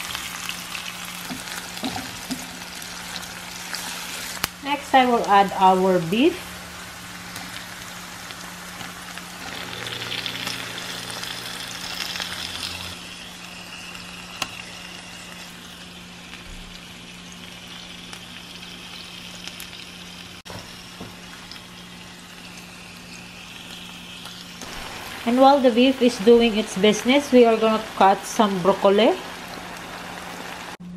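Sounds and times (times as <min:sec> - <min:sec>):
meat sizzling in hot oil: 0:00.0 - 0:30.8.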